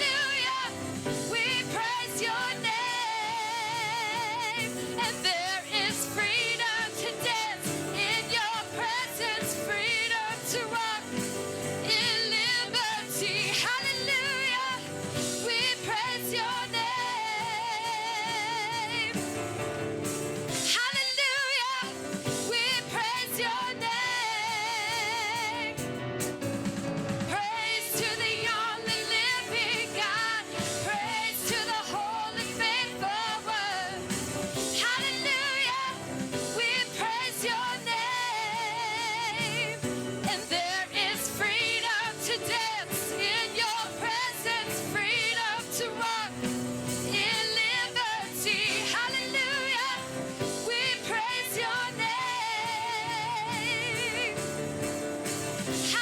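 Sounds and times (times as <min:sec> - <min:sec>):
person singing with vibrato: 0:00.0 - 0:19.4, 0:27.3 - 0:54.8
instrumental accompaniment: 0:00.0 - 0:56.0.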